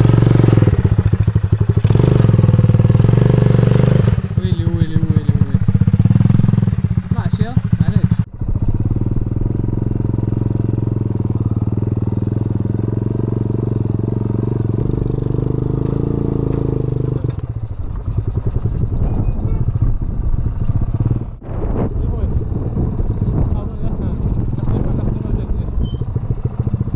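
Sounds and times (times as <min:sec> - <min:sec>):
small motorcycle engine running: 0:00.0 - 0:21.4, 0:22.0 - 0:26.9.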